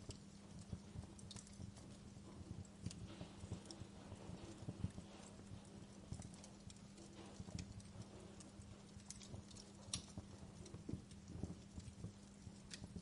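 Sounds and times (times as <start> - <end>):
low steady hum: 0.0 - 13.0
wood fire crackling: 0.0 - 13.0.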